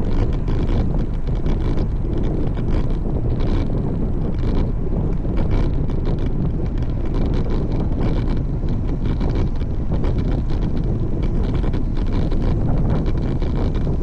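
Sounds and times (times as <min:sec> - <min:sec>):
faint irregular ticks: 0:00.0 - 0:14.0
wind rushing over microphone: 0:00.0 - 0:14.0.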